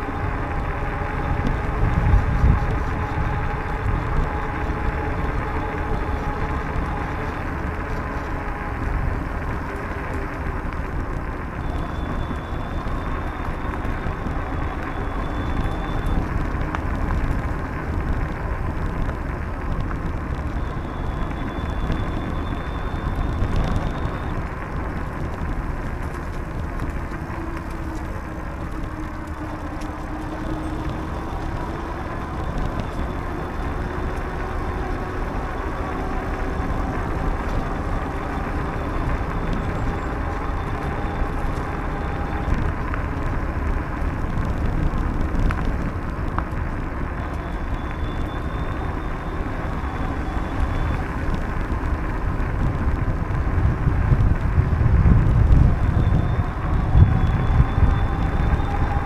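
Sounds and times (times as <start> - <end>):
bicycle rolling on pavement: 0.0 - 59.0
wind on microphone: 0.0 - 59.0.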